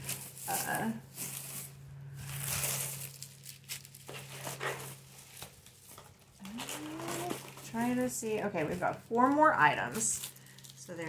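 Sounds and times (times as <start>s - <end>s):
paper packaging crinkling: 0.0s - 11.0s.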